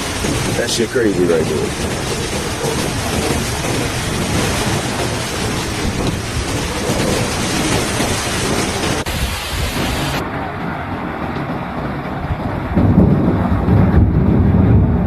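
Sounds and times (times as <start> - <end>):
heavy rain pouring: 0.0 - 15.0
low rumble: 0.0 - 15.0.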